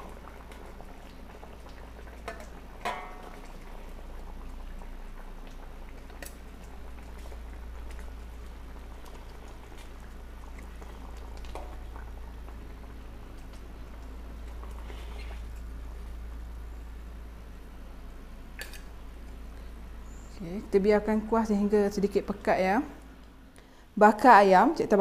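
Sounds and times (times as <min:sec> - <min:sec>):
gravy bubbling in a wok: 0:00.0 - 0:23.5.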